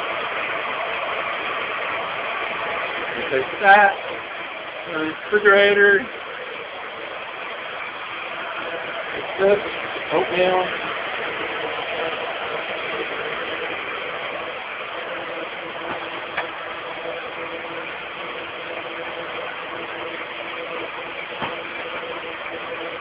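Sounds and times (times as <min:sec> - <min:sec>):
faint pitched drone: 0:00.0 - 0:23.0
motor whirring hum: 0:00.0 - 0:23.0.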